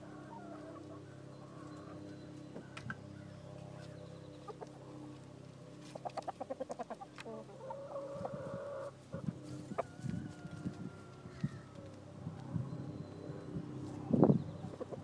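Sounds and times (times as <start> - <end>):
hens clucking: 0.0 - 3.0, 3.6 - 12.1, 13.8 - 15.0
low steady hum: 0.0 - 15.0.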